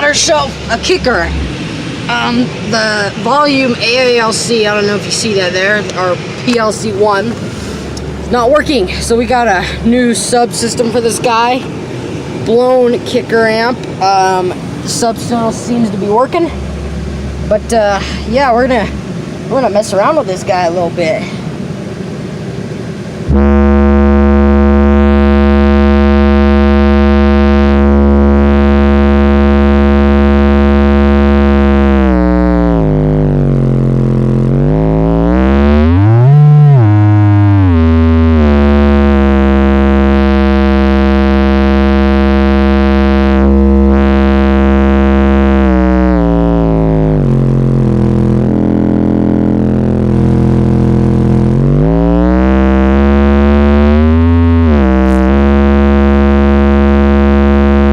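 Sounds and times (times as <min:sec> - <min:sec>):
distorted bass test tone: 0:00.0 - 0:20.3, 0:23.2 - 0:57.9.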